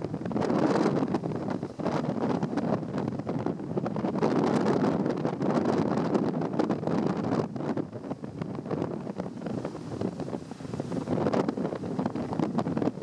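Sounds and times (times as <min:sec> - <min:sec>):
rough sea rushing: 0:00.0 - 0:13.0
wind buffeting microphone: 0:00.0 - 0:13.0.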